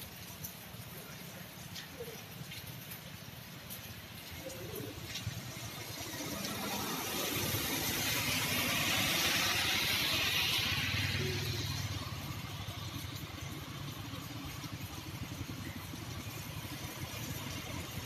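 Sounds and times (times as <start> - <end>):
rain hiss: 0.0 - 18.0
tyres hissing on wet road: 0.0 - 18.0.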